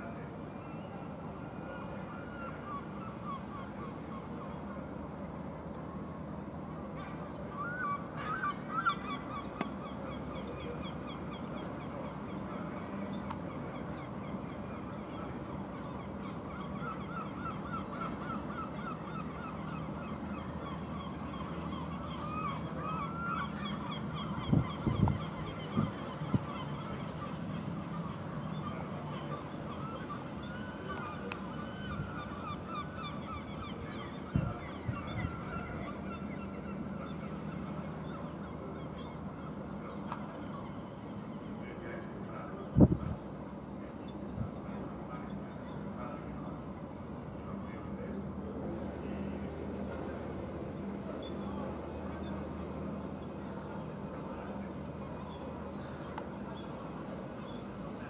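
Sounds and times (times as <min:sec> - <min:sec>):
birds calling in chorus: 0:06.2 - 0:58.0.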